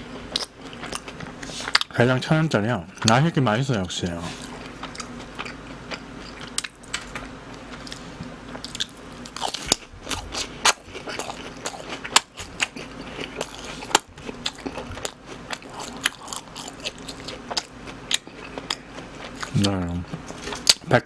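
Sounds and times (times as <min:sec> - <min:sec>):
crunchy chewing: 0:00.3 - 0:02.0, 0:02.9 - 0:21.0.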